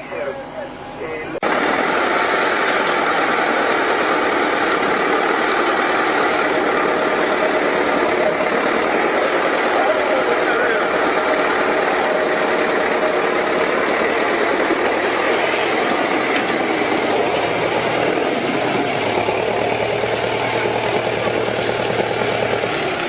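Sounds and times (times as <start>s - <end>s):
engine running steadily: 0.0s - 23.0s
low hum: 0.0s - 23.0s.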